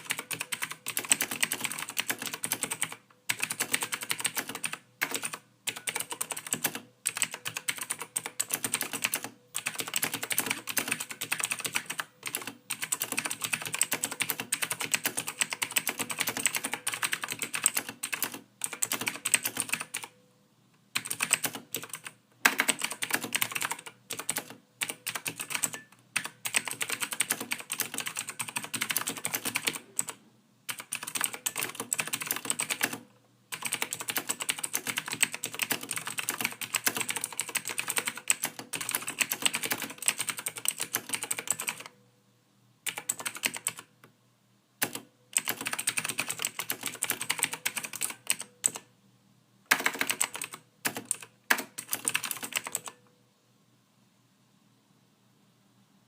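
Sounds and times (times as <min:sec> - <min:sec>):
typing on computer keyboard: 0:00.0 - 0:20.2, 0:20.9 - 0:42.0, 0:42.8 - 0:43.9, 0:44.8 - 0:48.9, 0:49.7 - 0:53.0.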